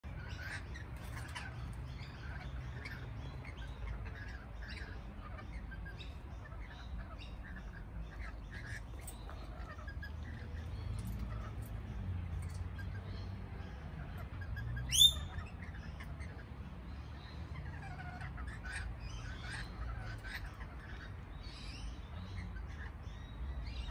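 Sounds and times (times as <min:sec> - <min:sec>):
lorikeets chattering: 0:00.0 - 0:23.9.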